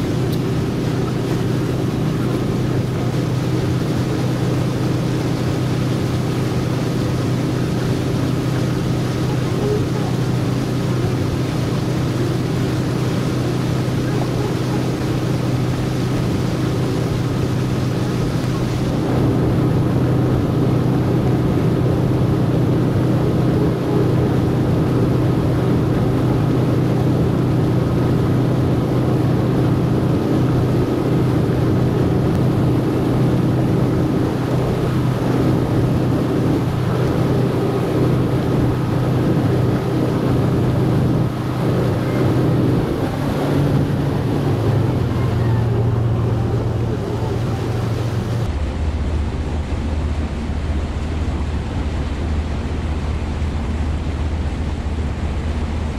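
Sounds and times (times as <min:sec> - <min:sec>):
motorboat engine humming: 0:00.0 - 0:55.9.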